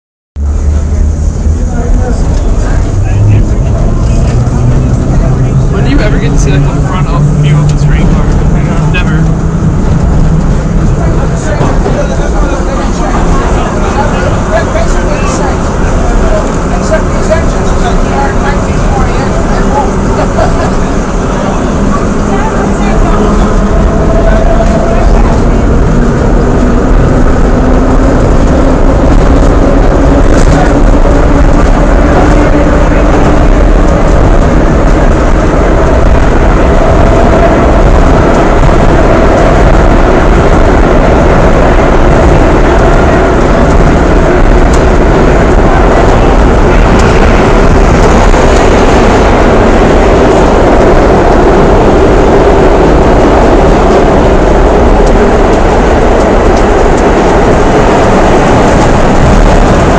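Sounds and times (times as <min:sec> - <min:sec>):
subway train running on track: 0:00.4 - 0:59.9.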